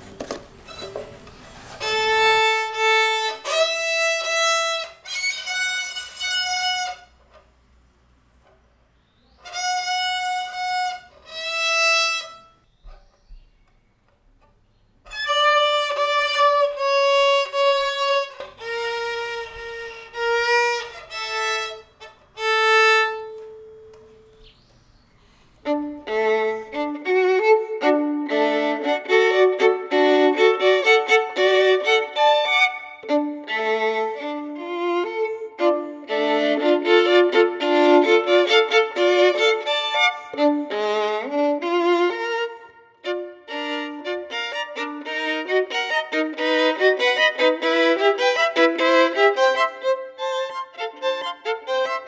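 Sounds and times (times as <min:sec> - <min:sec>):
solo violin playing: 0:00.6 - 0:07.5, 0:09.4 - 0:12.7, 0:15.1 - 0:24.4, 0:25.6 - 0:52.0.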